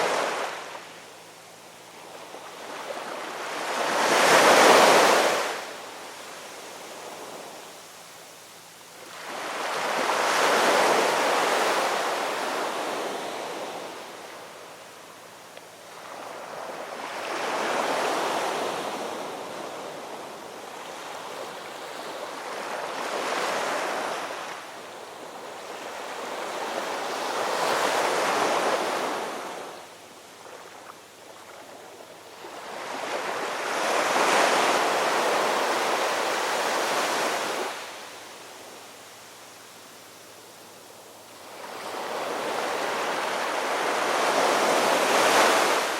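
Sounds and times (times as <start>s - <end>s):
ocean waves breaking on shore: 0.0s - 1.1s, 1.8s - 7.7s, 9.0s - 15.0s, 15.8s - 38.8s, 41.3s - 45.9s.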